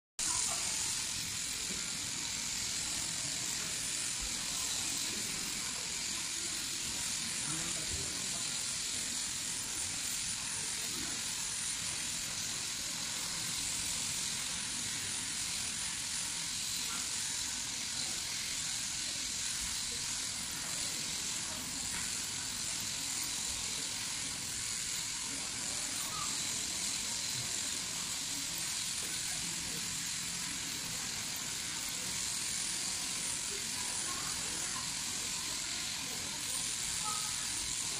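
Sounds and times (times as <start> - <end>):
electric shears cutting fleece: 0.2 - 37.9.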